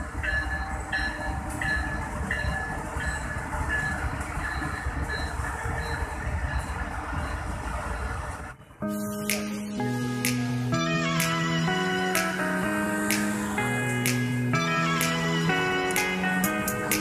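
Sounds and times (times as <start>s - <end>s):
rumble of train wheels on track: 0.0s - 8.8s, 10.2s - 17.0s.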